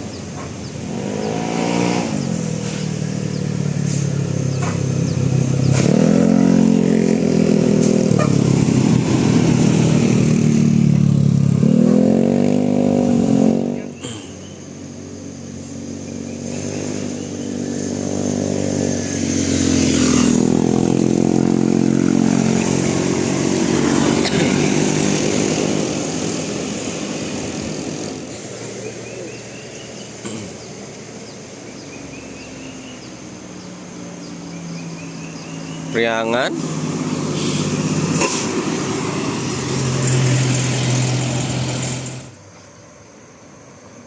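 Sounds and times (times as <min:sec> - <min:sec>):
vehicle engine passing by: 0:00.0 - 0:42.9.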